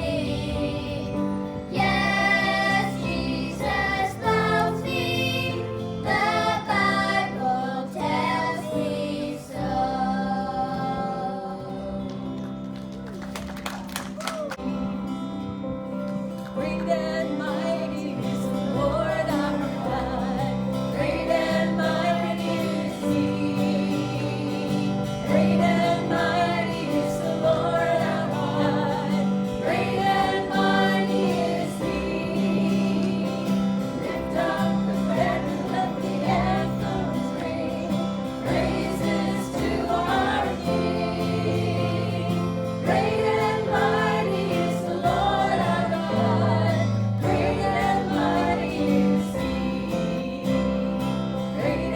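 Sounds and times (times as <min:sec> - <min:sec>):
group singing gospel song: 0:00.0 - 0:12.4, 0:16.6 - 0:51.9.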